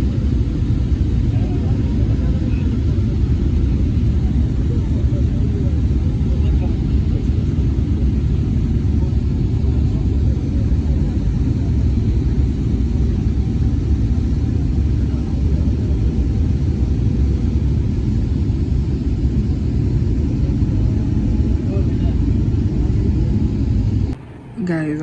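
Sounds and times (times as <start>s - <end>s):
moving vehicle low rumble: 0.0s - 25.0s.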